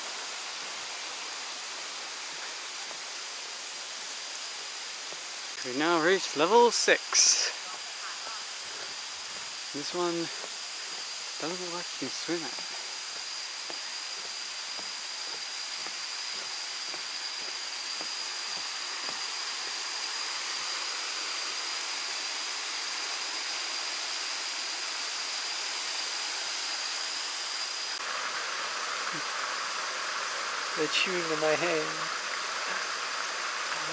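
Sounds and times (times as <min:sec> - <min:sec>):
thin high whine: 0:00.0 - 0:33.9.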